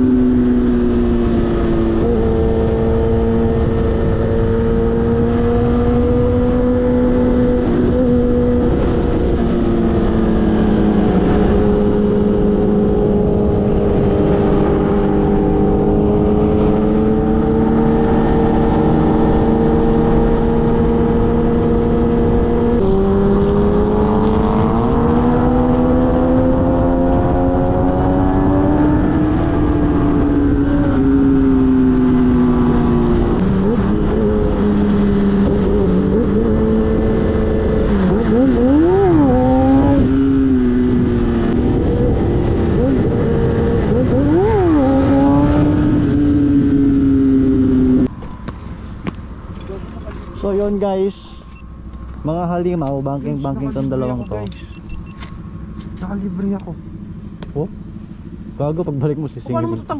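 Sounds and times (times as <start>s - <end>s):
wind noise: 0.0s - 56.3s.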